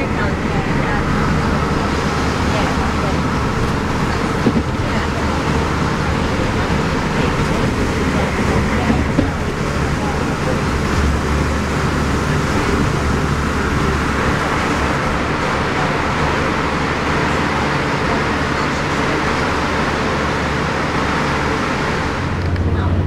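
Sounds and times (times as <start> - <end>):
bus diesel engine running: 0.0 - 23.0
tyres hissing on wet road: 0.0 - 23.0.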